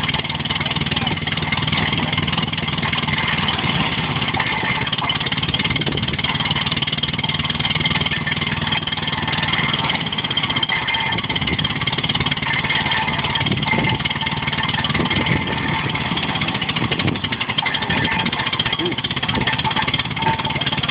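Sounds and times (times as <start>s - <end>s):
baler mechanical running noise: 0.0s - 20.9s
low engine hum: 0.0s - 20.9s.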